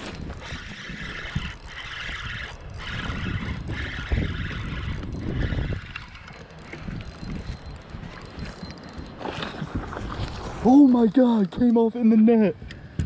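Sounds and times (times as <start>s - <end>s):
fishing reel gears whirring: 0.0s - 11.7s.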